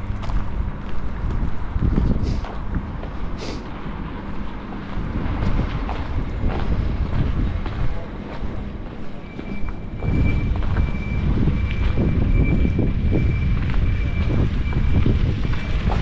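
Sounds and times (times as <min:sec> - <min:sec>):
passing vehicles: 0:00.0 - 0:16.0
wind buffeting microphone: 0:00.0 - 0:16.0.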